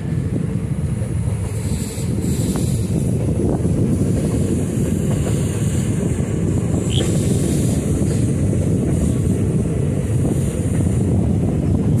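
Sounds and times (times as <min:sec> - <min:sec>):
train wheels rumbling on rails: 0:00.0 - 0:12.0
wind on microphone: 0:00.0 - 0:12.0.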